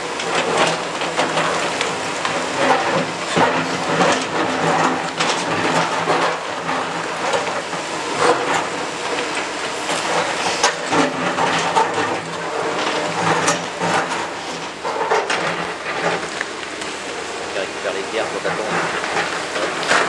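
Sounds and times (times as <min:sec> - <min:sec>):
buckets scraping stone rubble: 0:00.0 - 0:20.0
diesel engines running: 0:00.0 - 0:20.0.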